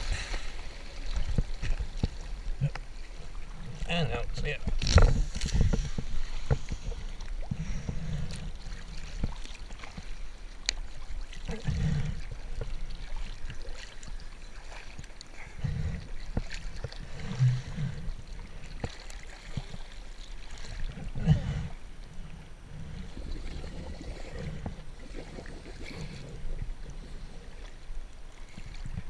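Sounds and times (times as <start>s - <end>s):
dull low water surges: 0.0s - 29.0s
sea water sloshing and lapping: 0.0s - 29.0s.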